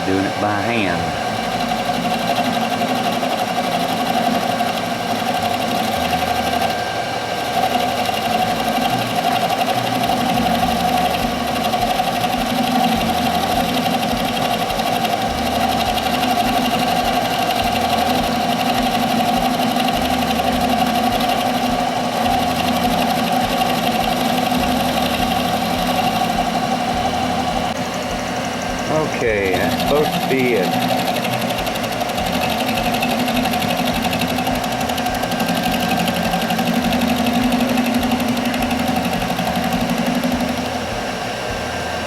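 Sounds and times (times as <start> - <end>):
small machine whirring hum: 0.0 - 42.0.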